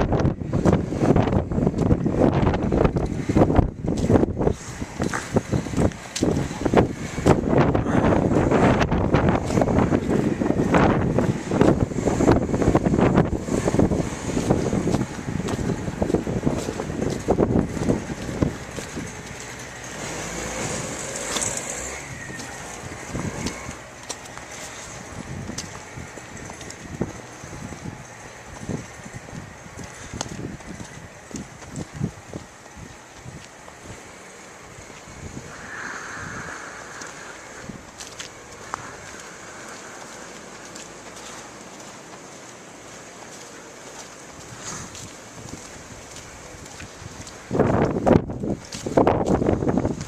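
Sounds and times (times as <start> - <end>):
wind buffeting microphone: 0.0 - 43.2, 43.9 - 50.0
vehicle passing on snow: 0.0 - 50.0.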